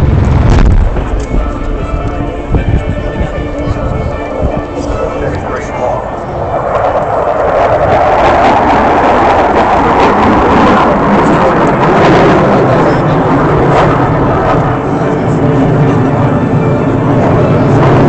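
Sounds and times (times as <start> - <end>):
fighter jet roaring past: 0.0 - 18.0.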